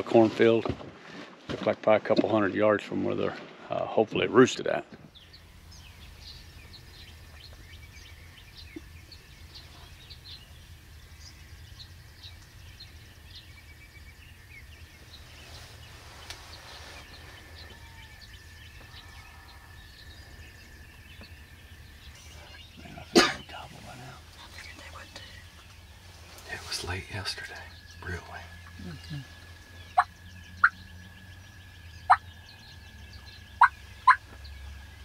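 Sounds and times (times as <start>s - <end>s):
small birds chirping: 5.0s - 35.0s
low steady rumble: 5.1s - 35.0s.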